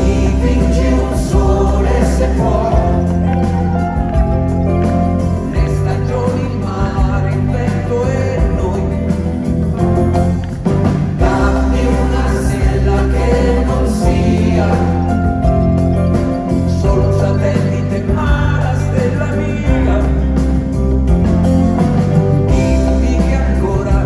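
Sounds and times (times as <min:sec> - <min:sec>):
person singing: 0:00.0 - 0:09.5, 0:11.2 - 0:20.6, 0:22.5 - 0:24.0
held bass notes: 0:00.0 - 0:24.0
keyboards: 0:00.0 - 0:24.0.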